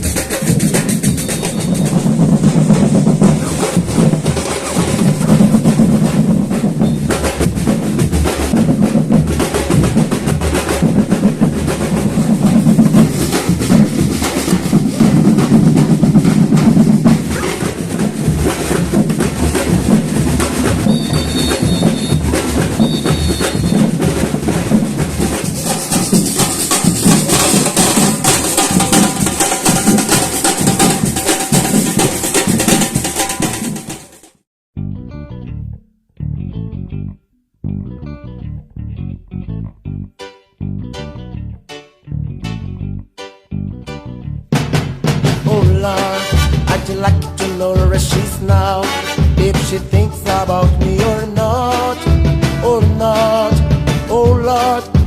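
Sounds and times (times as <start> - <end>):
deep bass drums: 0.0 - 33.8, 34.8 - 55.0
samba drum ensemble: 0.0 - 34.4, 44.5 - 55.0
snare drums: 0.0 - 34.4, 44.5 - 55.0.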